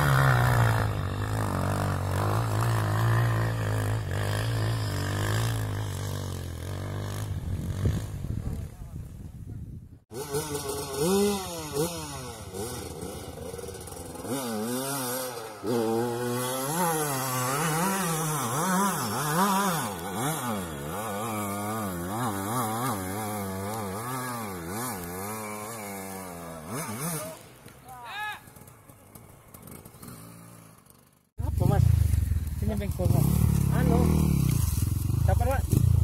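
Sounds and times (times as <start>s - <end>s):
dirt bike engine revving: 0.0s - 8.8s, 10.1s - 36.0s.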